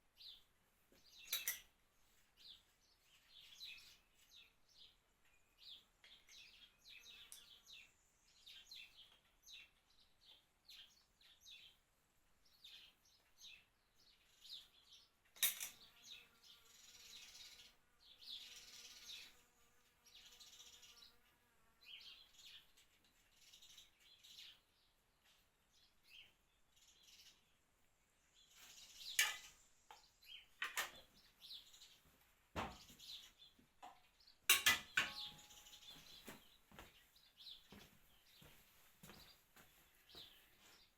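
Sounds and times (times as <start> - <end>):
faint birds chirping: 0.0 - 40.9.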